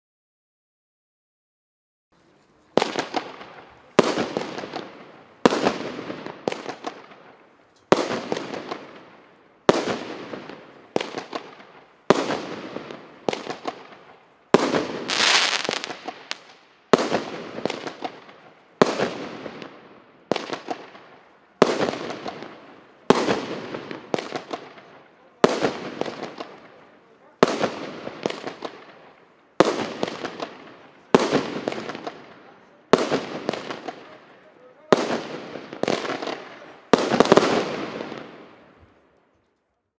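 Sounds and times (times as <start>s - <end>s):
fireworks bangs with crackle: 2.7s - 39.1s.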